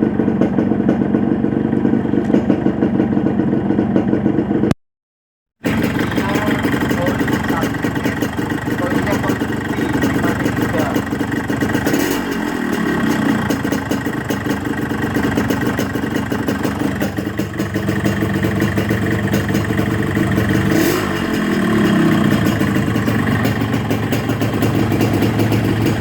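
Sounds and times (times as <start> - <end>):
two-stroke motorcycle engine idling: 0.0 - 4.8, 5.6 - 26.0.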